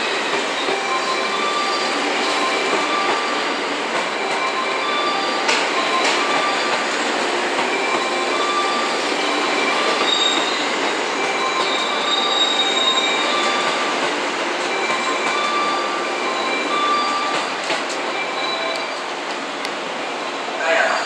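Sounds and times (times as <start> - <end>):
high-pitched train squeals: 0.0 - 19.4, 20.2 - 21.0
train rumbling: 0.0 - 21.0.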